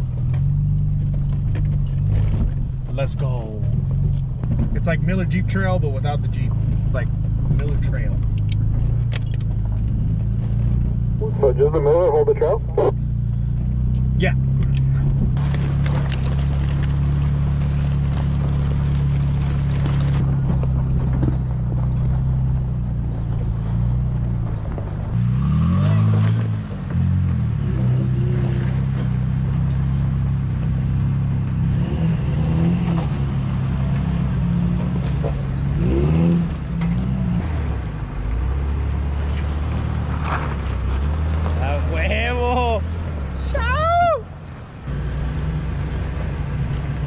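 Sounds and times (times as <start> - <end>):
truck engine revving: 4.8 - 43.6.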